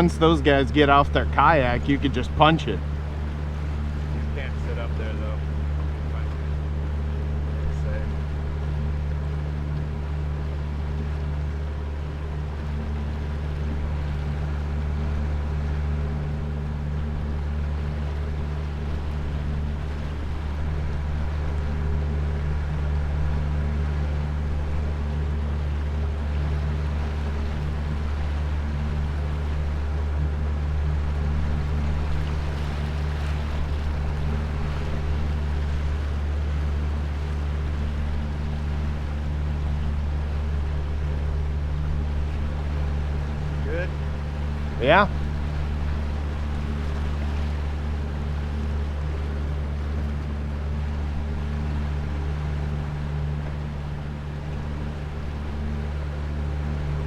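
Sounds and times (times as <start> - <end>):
boat motor droning: 0.0 - 57.0.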